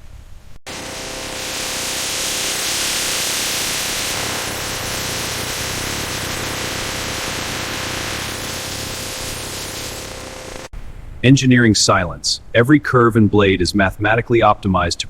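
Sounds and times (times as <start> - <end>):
faint steady hum: 0.0 - 15.0
steady hissing noise: 0.0 - 15.0.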